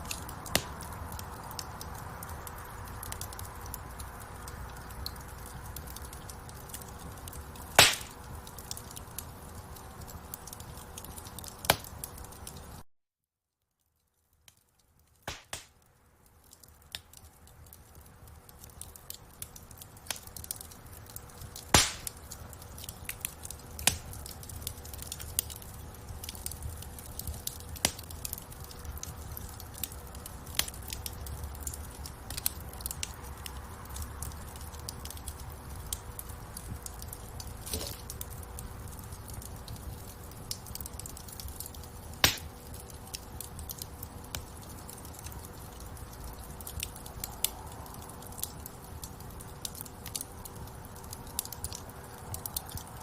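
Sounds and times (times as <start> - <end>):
logs crackling in fireplace: 0.0 - 12.8, 14.0 - 53.0
low rumble of flames: 0.0 - 12.8, 14.0 - 53.0.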